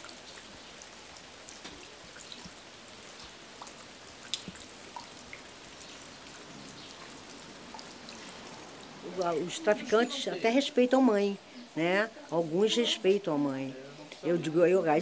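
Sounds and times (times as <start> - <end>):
raindrops ticking close by: 0.0 - 15.0
steady light rain: 0.0 - 15.0.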